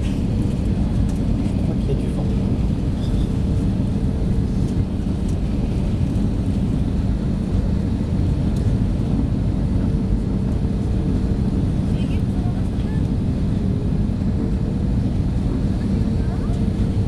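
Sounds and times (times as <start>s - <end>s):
jet cabin rumble: 0.0s - 17.0s.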